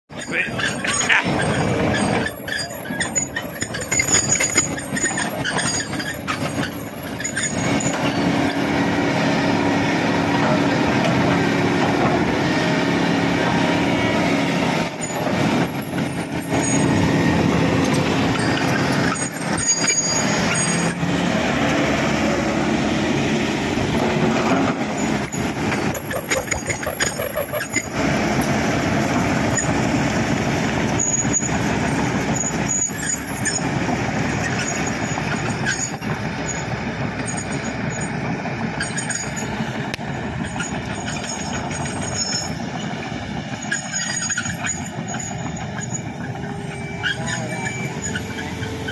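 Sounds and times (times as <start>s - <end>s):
excavator diesel engine running: 0.1s - 48.9s.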